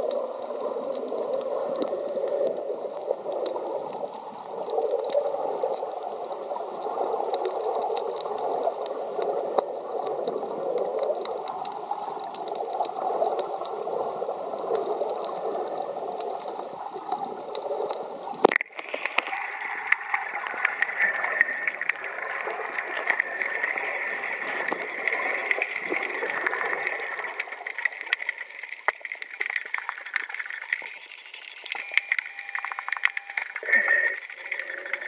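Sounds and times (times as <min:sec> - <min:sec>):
faint underwater clicks: 0:00.0 - 0:35.0
underwater rushing water: 0:00.0 - 0:35.0.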